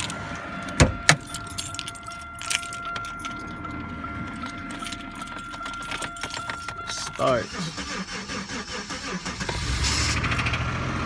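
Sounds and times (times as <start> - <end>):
car keys jangling: 0.0 - 9.0.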